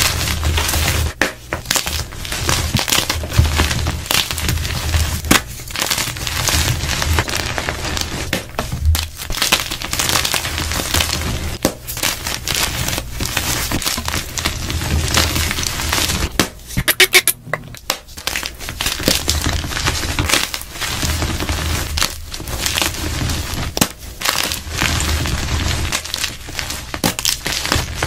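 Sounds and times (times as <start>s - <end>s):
hands crumbling chalk: 0.0s - 28.0s.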